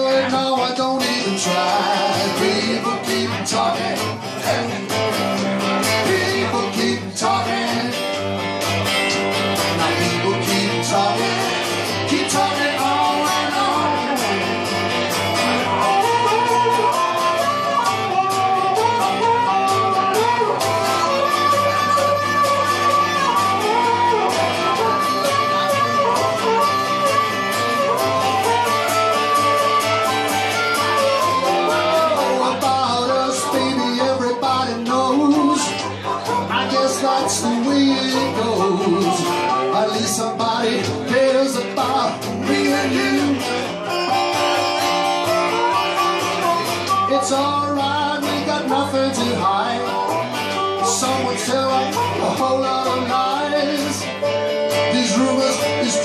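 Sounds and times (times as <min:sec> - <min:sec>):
acoustic guitar strumming: 0:00.0 - 0:56.0
harmonica melody: 0:00.0 - 0:56.0.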